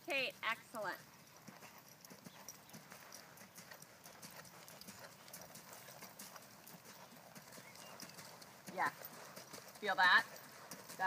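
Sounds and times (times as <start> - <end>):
faint hoofbeats on sand: 0.1 - 11.0.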